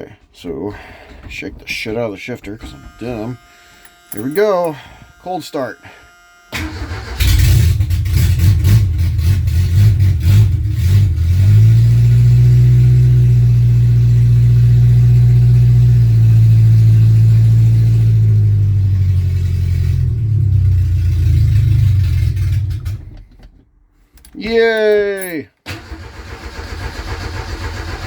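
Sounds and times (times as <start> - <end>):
car engine idling and stalling: 0.1 - 24.4, 25.2 - 28.0.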